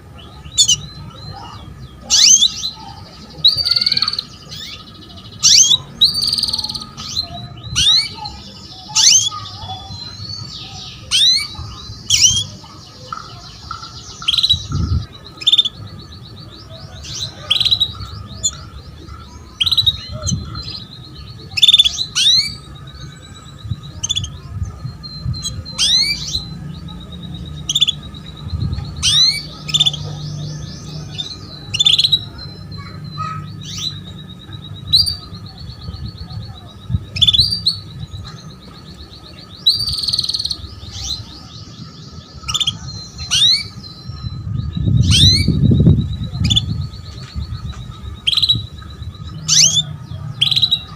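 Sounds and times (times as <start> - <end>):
canary chirps: 0.0 - 50.9.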